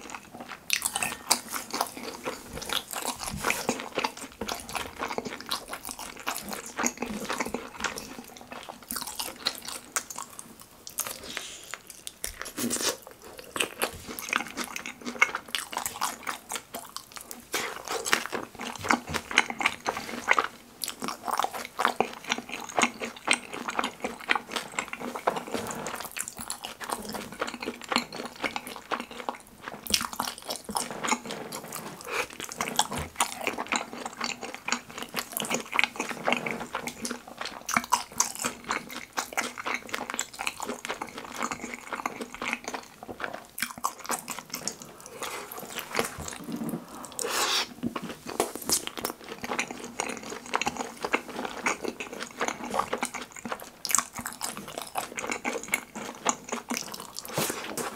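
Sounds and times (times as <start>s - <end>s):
mouth chewing clicks and smacks: 0.0s - 46.4s, 47.9s - 57.9s.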